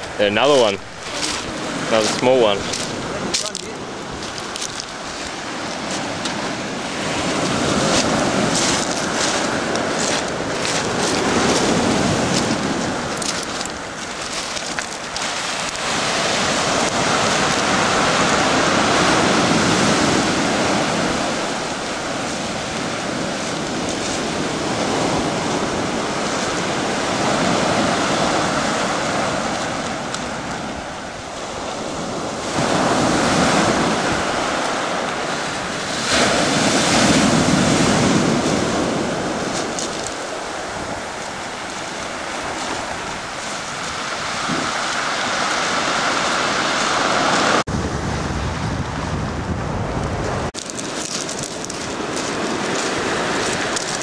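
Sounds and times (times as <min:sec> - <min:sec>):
surf breaking on pebble beach: 0:00.2 - 0:48.2, 0:50.5 - 0:54.0
wind buffeting microphone: 0:00.8 - 0:54.0.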